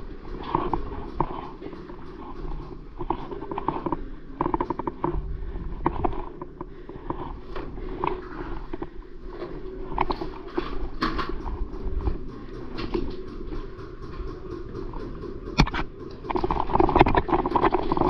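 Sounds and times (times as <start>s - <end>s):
footsteps and gear knocking: 0.0s - 18.0s.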